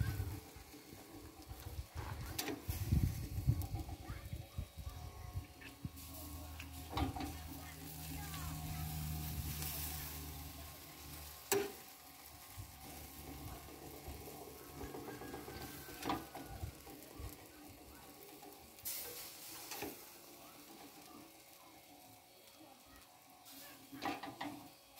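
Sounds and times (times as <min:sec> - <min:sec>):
fat sizzling on charcoal: 0:00.0 - 0:24.9.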